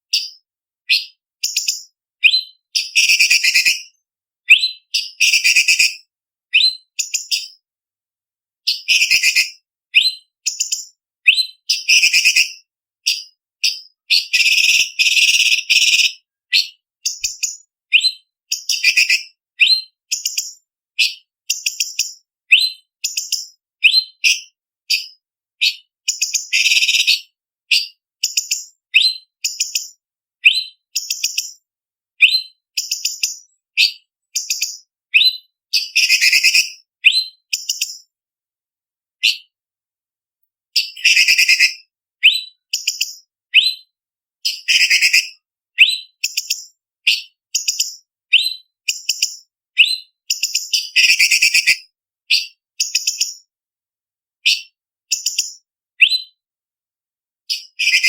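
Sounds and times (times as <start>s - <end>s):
bird singing whistled notes: 0.1s - 7.6s, 8.7s - 31.6s, 32.2s - 38.1s, 39.2s - 39.5s, 40.8s - 53.4s, 54.4s - 56.4s.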